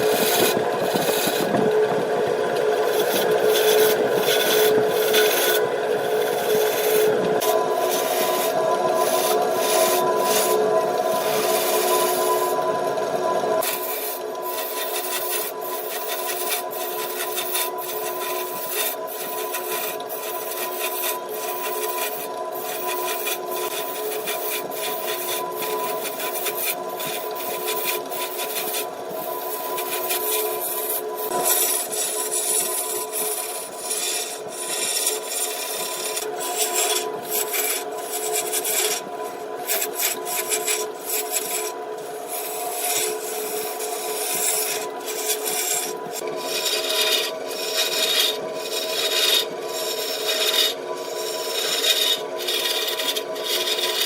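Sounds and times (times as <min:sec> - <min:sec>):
turning tool scraping wood: 0:00.0 - 0:12.7, 0:13.6 - 0:54.0
wood lathe humming: 0:00.0 - 0:54.0.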